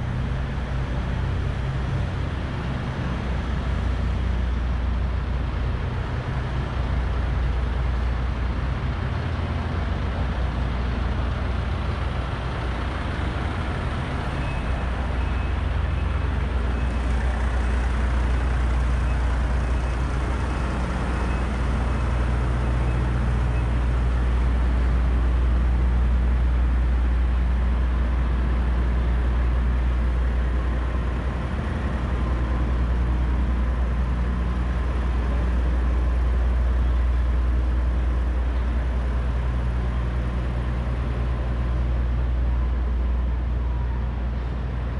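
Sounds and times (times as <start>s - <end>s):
diesel machinery rumbling: 0.0s - 44.9s.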